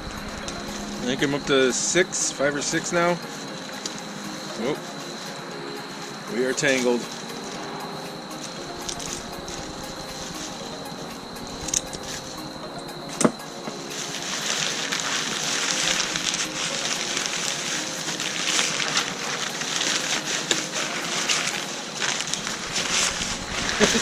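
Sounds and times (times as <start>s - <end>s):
packaging rustling and crinkling: 0.0s - 24.0s.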